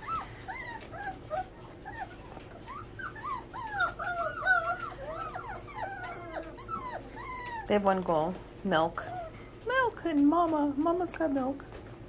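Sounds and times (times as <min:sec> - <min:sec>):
puppies whimpering and whining: 0:00.0 - 0:09.7.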